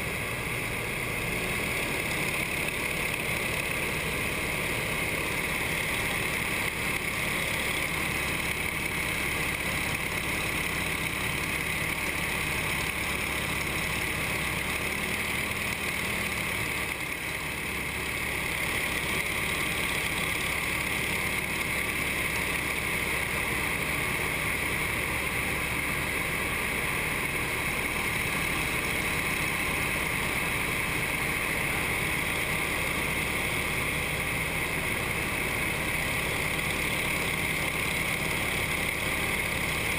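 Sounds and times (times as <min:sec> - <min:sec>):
propeller and wind noise: 0:00.0 - 0:39.9
radial aircraft engine running: 0:00.0 - 0:39.9.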